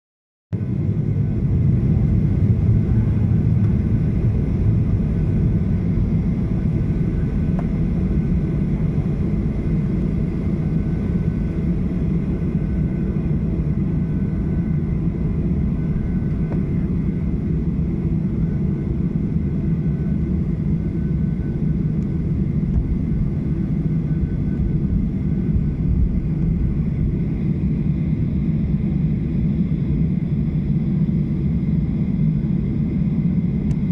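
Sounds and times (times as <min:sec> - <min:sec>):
jet engines rumbling in cabin: 0:00.6 - 0:33.9.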